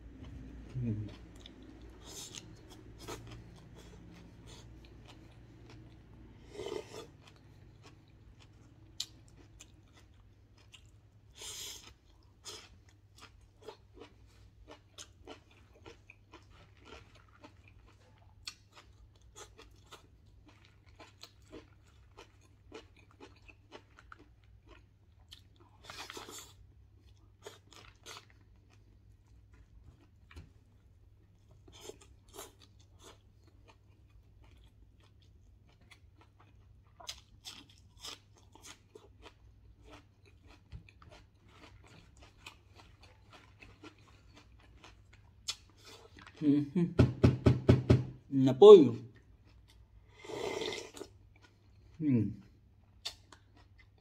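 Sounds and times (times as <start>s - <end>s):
chewing and crunching food: 0.0s - 46.8s, 49.0s - 54.0s.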